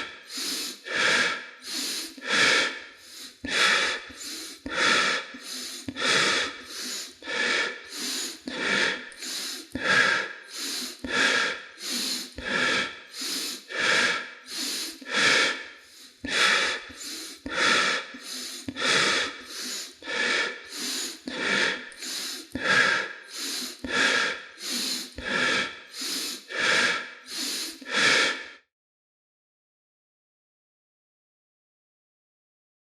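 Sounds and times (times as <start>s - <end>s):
person breathing rapidly: 0.0s - 28.7s.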